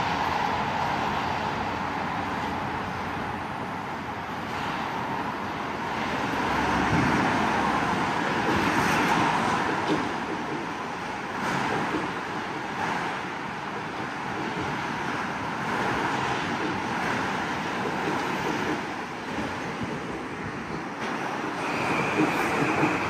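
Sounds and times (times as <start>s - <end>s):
train wheels rushing on rail: 0.0s - 23.0s.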